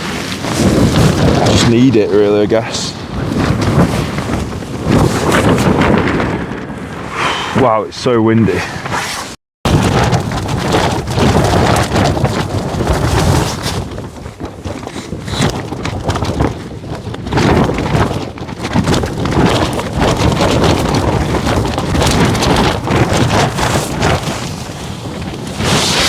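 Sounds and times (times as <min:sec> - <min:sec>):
wind gusting against tent: 0:00.0 - 0:26.0
wind noise on microphone: 0:00.0 - 0:26.0.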